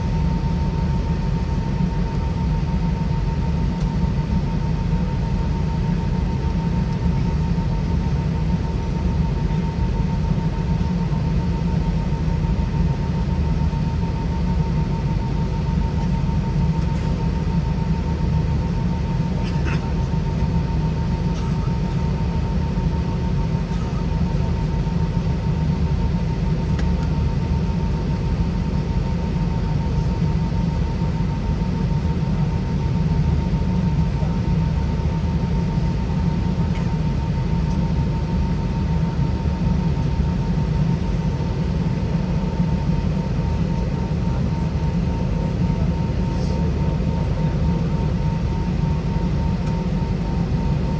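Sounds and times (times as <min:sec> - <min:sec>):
airliner cabin engine rumble: 0:00.0 - 0:50.9.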